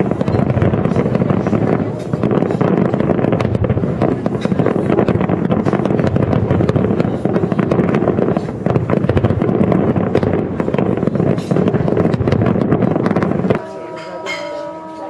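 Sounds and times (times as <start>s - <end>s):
fireworks bursts and crackles: 0.0s - 15.0s.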